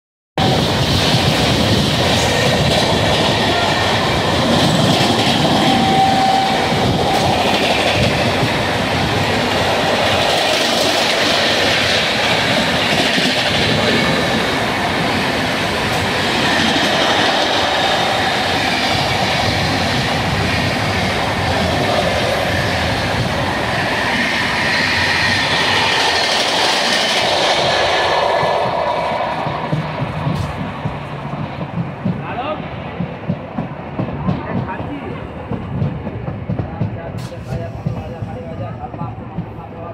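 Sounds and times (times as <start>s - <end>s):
train wheels clacking over rails: 0.4s - 39.9s.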